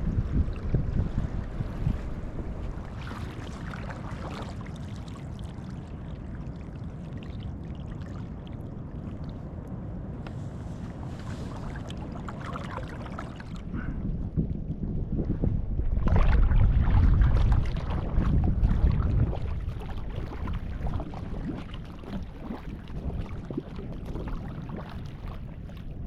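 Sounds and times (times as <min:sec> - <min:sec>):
water splashing and lapping: 0:00.0 - 0:09.8, 0:10.4 - 0:14.0, 0:15.8 - 0:26.0
wind rumble on microphone: 0:00.0 - 0:26.0
paddle stroke splashes: 0:00.2 - 0:09.5, 0:10.2 - 0:14.0, 0:16.0 - 0:26.0.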